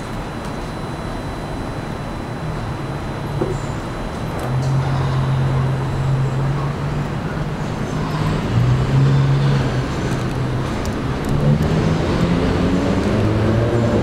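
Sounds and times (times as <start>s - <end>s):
street traffic noise: 0.0s - 14.0s
subway train hum: 0.0s - 14.0s.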